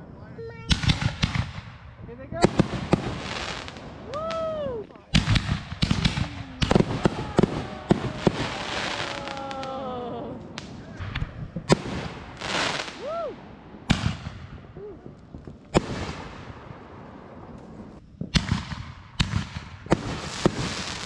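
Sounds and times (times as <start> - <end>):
firework crackling and hissing: 0.0 - 21.0
firework shells bursting: 0.6 - 21.0.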